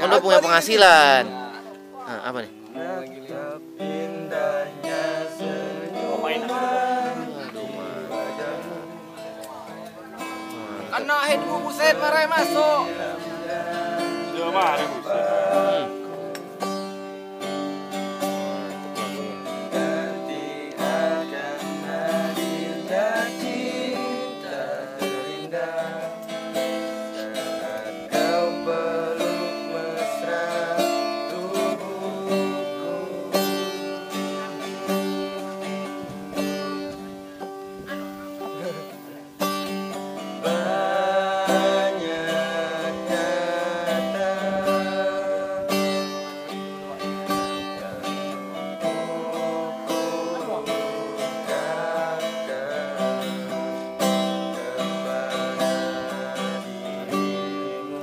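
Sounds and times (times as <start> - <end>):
acoustic guitar strumming: 0.0 - 58.0
man singing: 2.4 - 17.0, 17.9 - 36.8, 40.2 - 58.0.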